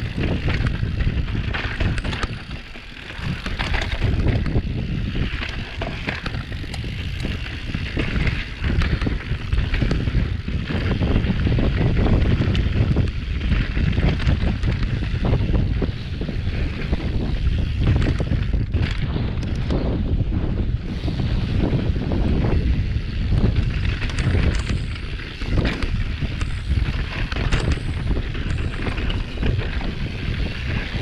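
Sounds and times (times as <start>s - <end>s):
bike rattling and knocking: 0.0s - 31.0s
wind buffeting microphone: 0.0s - 31.0s.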